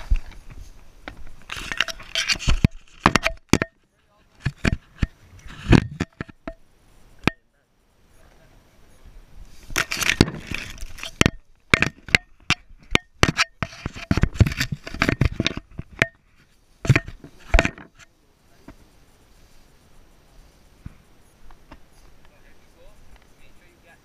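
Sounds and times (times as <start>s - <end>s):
grass brushing against camera: 0.0s - 7.4s, 8.0s - 24.0s.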